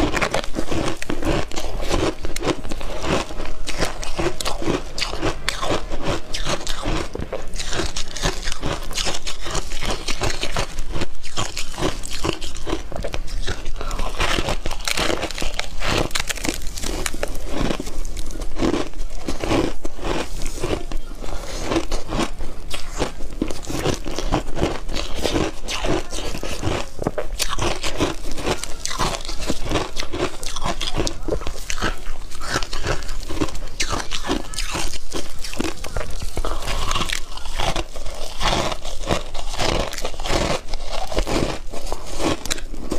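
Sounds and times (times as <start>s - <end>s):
ice crunching between teeth: 0.0s - 42.9s.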